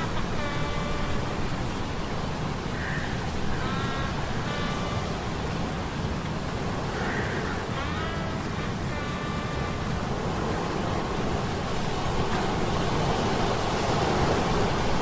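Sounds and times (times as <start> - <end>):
surf rushing: 0.0 - 15.0
wind: 0.0 - 15.0.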